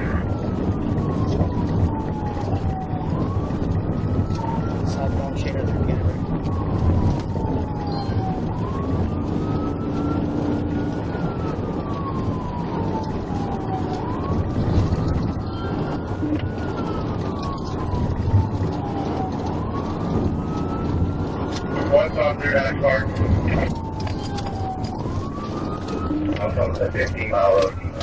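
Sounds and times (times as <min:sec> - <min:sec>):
engine and road noise: 0:00.0 - 0:28.0
police siren wailing: 0:00.0 - 0:28.0.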